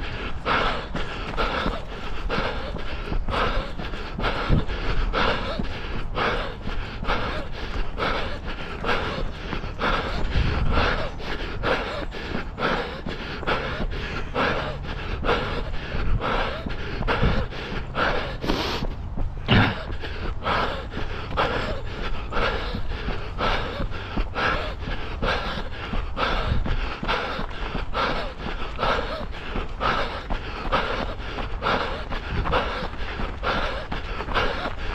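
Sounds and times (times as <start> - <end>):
runner panting breaths: 0.0 - 34.9
steady low rumble: 0.0 - 34.9.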